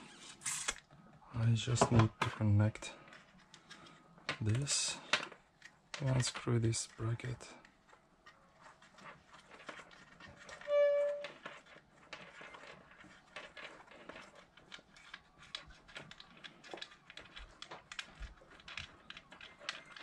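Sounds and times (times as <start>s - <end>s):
plastic clicks and rattles: 1.7s - 8.4s, 9.0s - 20.0s.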